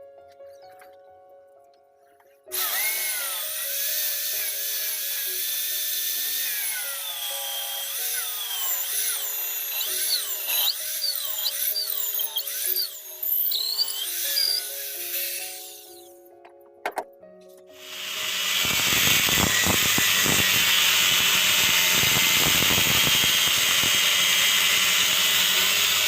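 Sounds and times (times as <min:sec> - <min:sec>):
background music with simple melody: 0:00.0 - 0:26.0
power tool whining: 0:02.5 - 0:16.2, 0:17.7 - 0:26.0.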